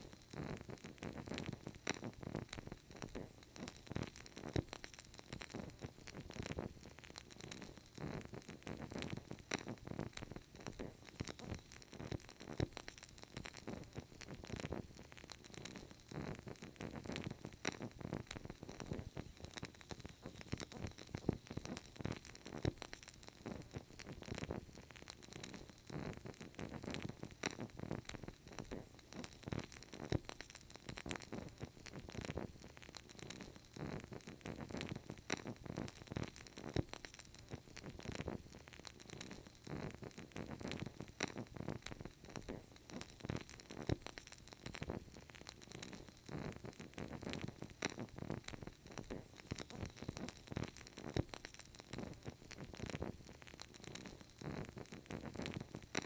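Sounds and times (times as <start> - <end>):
candle crackling: 0.0 - 56.0.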